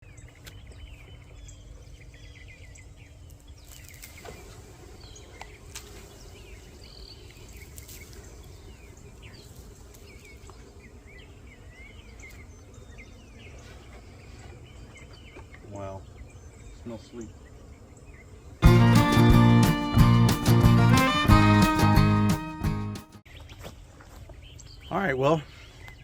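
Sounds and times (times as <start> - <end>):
songbirds chirping: 0.0 - 20.6, 24.2 - 26.0.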